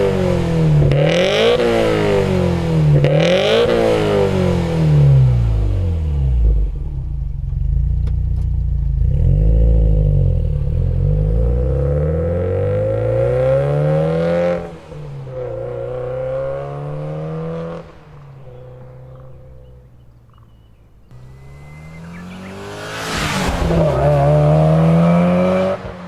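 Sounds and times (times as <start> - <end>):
car exhaust revving: 0.0 - 26.0.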